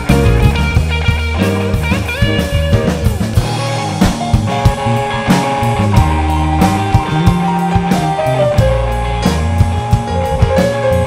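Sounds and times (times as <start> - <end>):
bass guitar: 0.0 - 11.0
drum kit: 0.0 - 11.0
electric guitar: 0.0 - 11.0.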